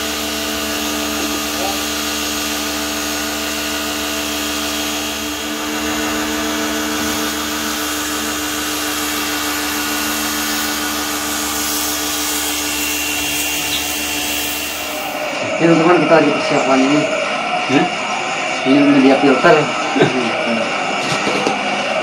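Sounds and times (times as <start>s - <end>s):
water jet hissing on wall: 0.0s - 18.0s
pressure washer motor hum: 0.0s - 22.0s.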